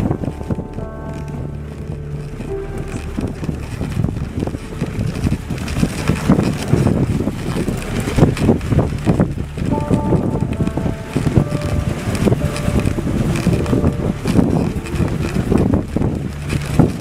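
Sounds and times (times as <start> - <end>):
low thumps: 0.0 - 17.0
sled gliding over snow: 0.0 - 17.0
wind buffeting microphone: 0.0 - 17.0.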